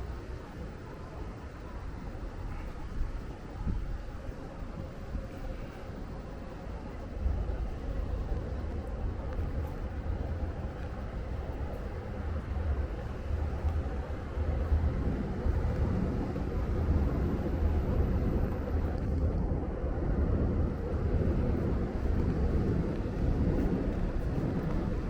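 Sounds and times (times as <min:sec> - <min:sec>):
low traffic rumble: 0:00.0 - 0:25.0.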